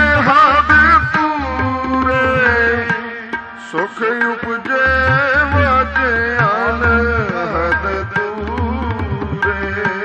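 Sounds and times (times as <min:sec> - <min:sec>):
harmonium: 0:00.0 - 0:10.0
man singing: 0:00.0 - 0:10.0
tabla strokes: 0:00.0 - 0:10.0.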